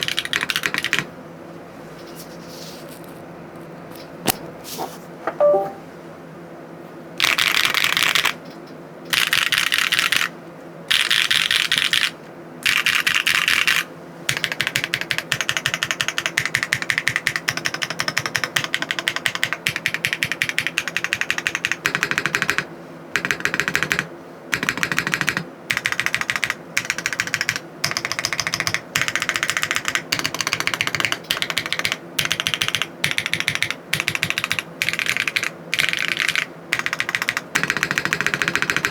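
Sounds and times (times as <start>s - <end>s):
keyboard typing clacks: 0.0s - 1.1s, 5.3s - 5.8s, 7.2s - 8.4s, 9.1s - 10.3s, 10.9s - 38.9s.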